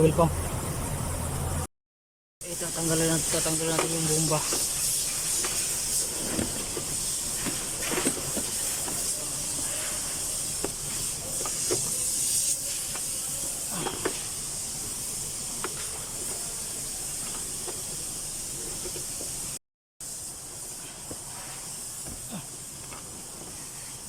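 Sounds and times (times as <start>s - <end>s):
steady high hiss: 2.4s - 24.0s.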